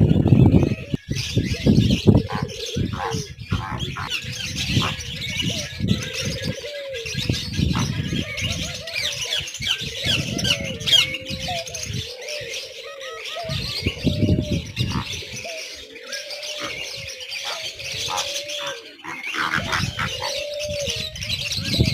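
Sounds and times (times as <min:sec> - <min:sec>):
pigeons cooing: 0:00.0 - 0:21.9
small birds chirping: 0:00.0 - 0:21.9.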